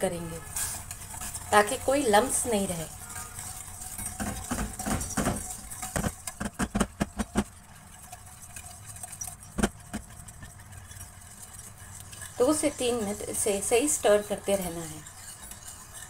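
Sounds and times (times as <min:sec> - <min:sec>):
whisk clicking in metal pan: 0:00.4 - 0:16.0.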